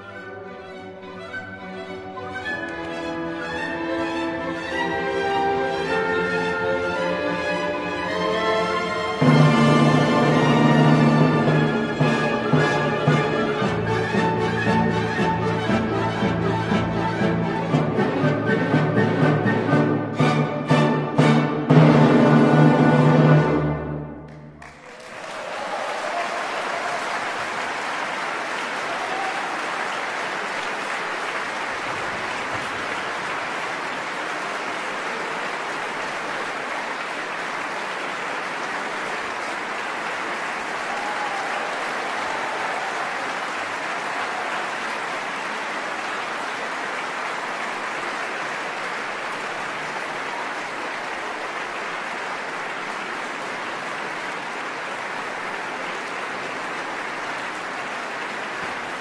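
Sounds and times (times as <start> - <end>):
audience applauding: 1.3 - 59.0.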